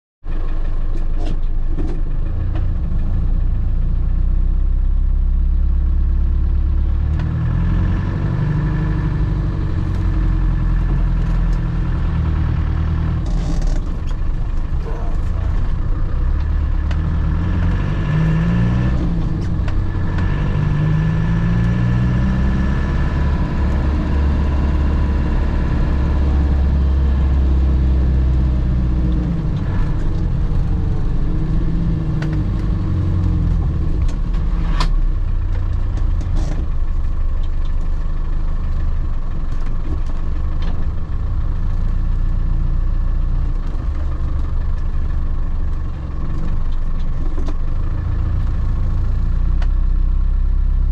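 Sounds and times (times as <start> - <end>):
car engine heard from inside: 0.3 - 50.9.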